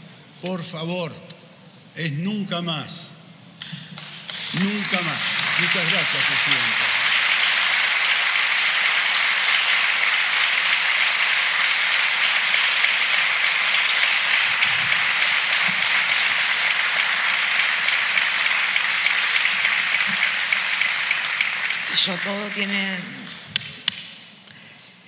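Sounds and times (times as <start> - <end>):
crowd applauding: 3.6 - 24.1.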